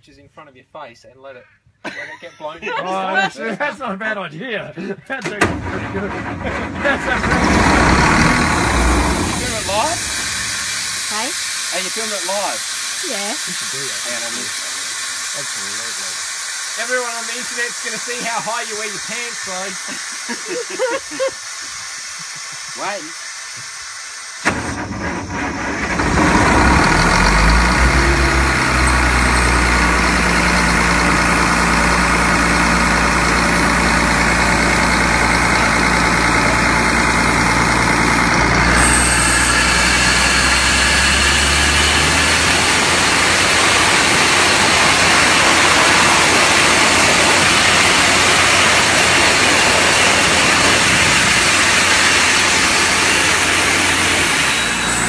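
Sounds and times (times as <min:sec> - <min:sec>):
air compressor running: 0:05.4 - 0:55.0
rush of blasting air: 0:07.0 - 0:55.0.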